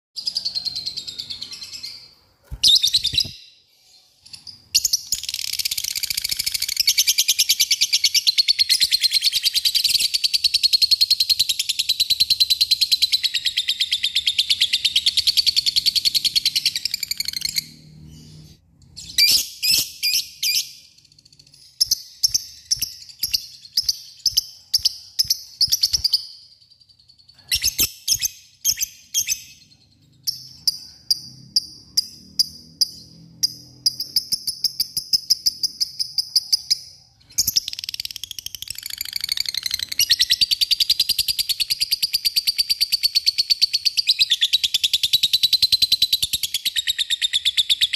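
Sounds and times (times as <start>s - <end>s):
lovebird chirping and trilling: 0.2s - 47.9s.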